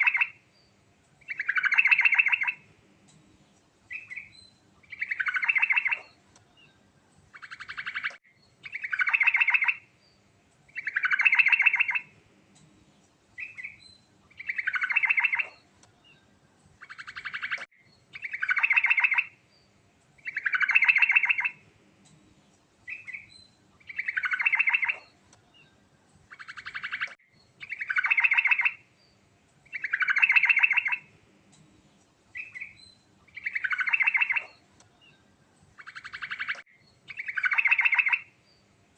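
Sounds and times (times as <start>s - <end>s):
bird singing rattling trill: 0.0s - 2.7s, 3.9s - 12.1s, 13.4s - 21.6s, 22.9s - 31.1s, 32.3s - 38.7s.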